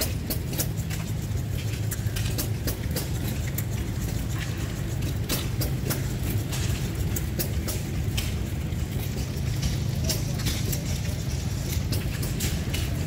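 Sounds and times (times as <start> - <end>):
sharp clicks and ticks: 0.0 - 13.0.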